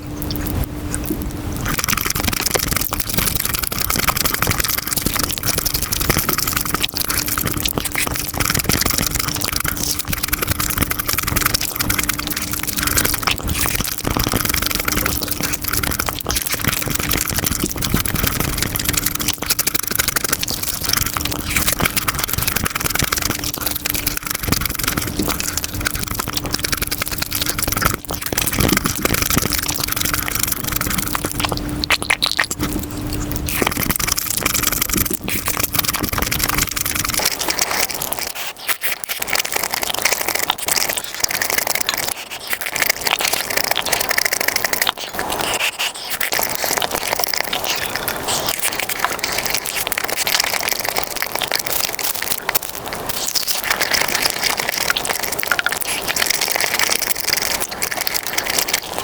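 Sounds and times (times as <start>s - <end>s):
food crunching while chewed: 0.0s - 59.0s
steady low hum: 0.0s - 59.0s.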